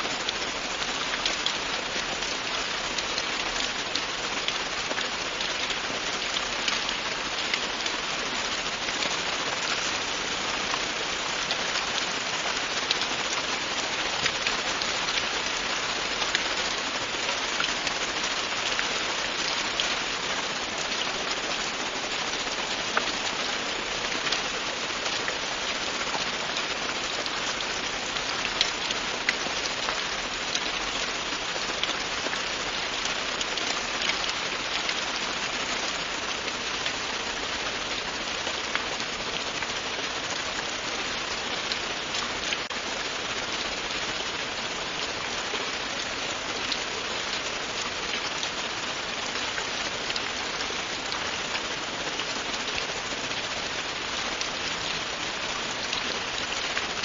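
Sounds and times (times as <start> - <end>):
raindrops ticking: 0.0 - 57.0
steady rain hiss: 0.0 - 57.0.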